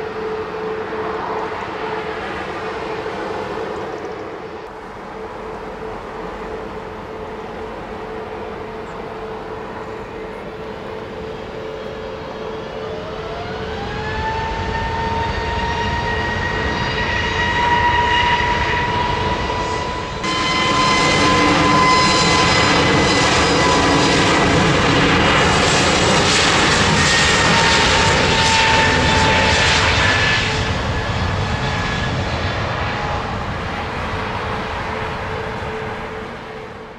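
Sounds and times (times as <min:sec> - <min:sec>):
jet engine roar: 0:00.0 - 0:36.9
jet engine whine: 0:00.0 - 0:36.9.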